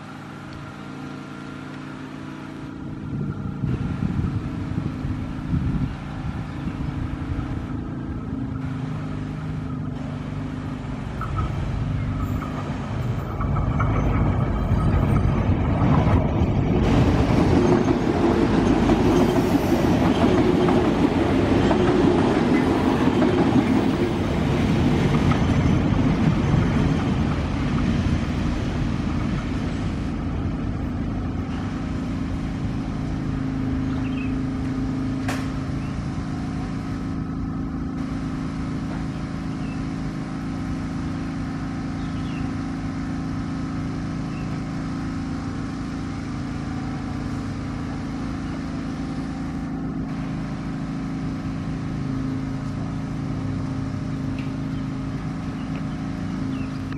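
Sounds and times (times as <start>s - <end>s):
train engine hum: 0.0s - 56.9s
wheel-on-rail rush: 0.0s - 56.9s.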